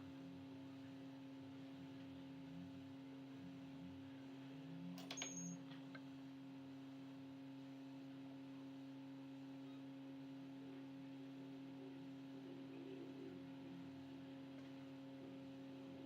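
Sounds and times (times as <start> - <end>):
faint low electrical hum: 0.0 - 16.0.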